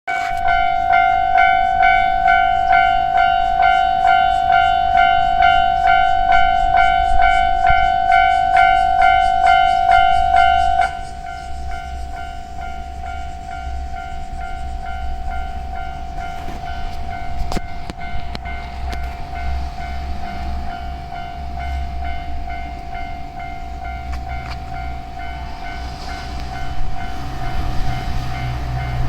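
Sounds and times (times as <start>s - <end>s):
level crossing warning bell ringing: 0.1s - 29.0s.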